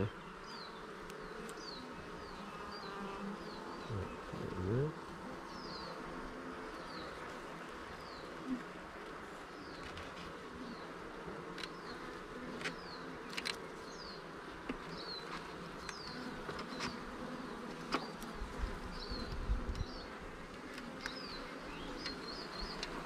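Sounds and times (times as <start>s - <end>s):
honeybees humming: 0.0s - 23.0s.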